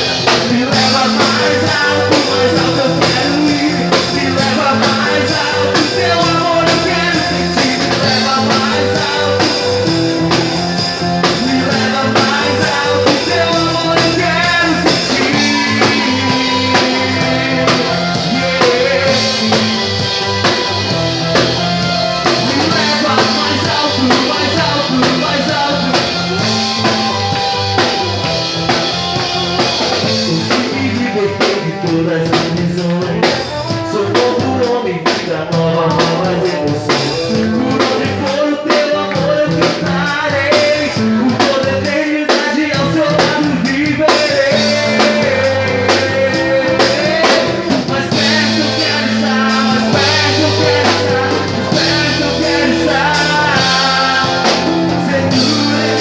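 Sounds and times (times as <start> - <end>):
bass: 0.0 - 56.0
drum kit: 0.0 - 56.0
electric guitar: 0.0 - 56.0.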